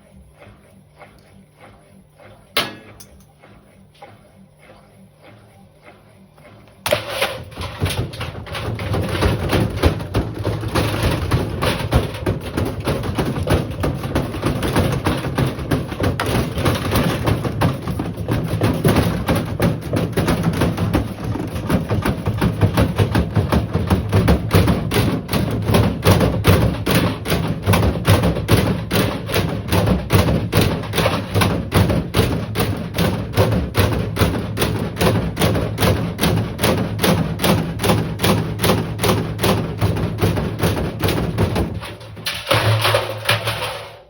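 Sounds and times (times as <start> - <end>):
washing machine spinning: 0.0 - 44.0
drum knocking against cabinet: 6.9 - 43.8.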